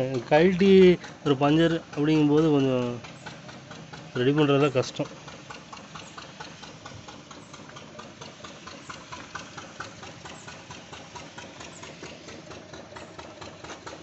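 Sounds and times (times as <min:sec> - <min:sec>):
engine idling with ticking knock: 0:00.0 - 0:14.0.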